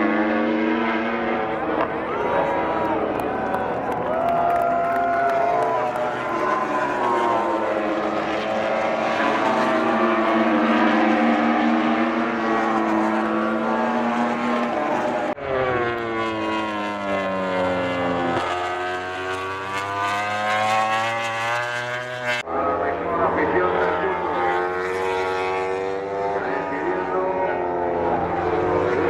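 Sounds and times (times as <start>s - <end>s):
race bike engines at high revs: 0.0s - 29.0s.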